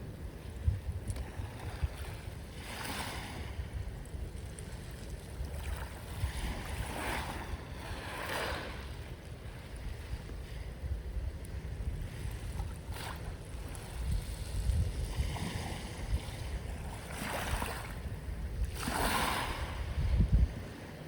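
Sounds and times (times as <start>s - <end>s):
wind rumble on microphone: 0.0s - 21.0s
sea waves washing on shore: 1.2s - 21.0s.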